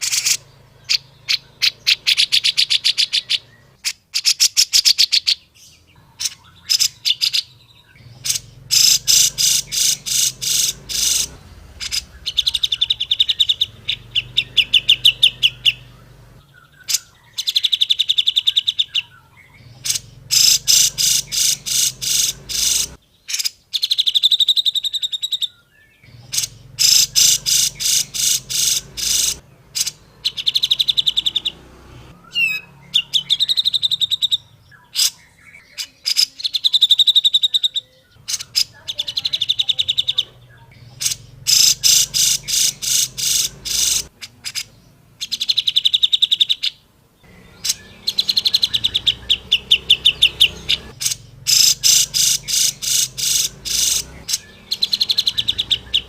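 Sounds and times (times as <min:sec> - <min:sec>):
bulbul singing chattering phrases: 0:00.0 - 0:56.0.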